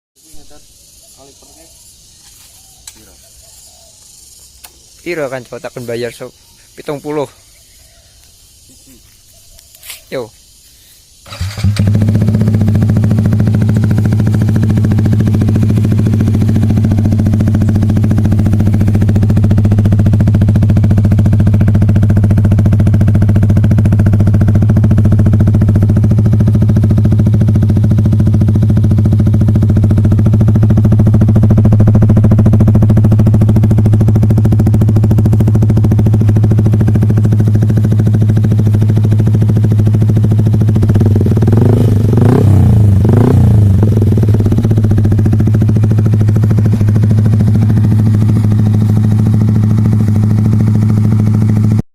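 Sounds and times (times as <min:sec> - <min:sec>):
motorcycle engine idling: 0:00.2 - 0:51.8.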